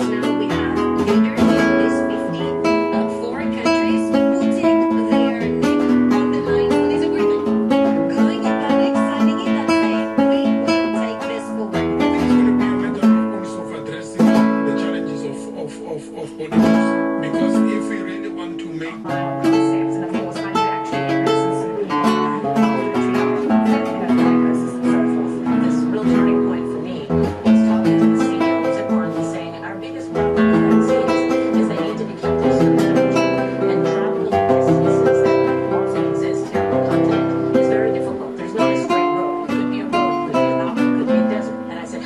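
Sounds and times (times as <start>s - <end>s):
acoustic guitar strumming: 0.0s - 42.0s
plucked notes: 0.0s - 42.0s.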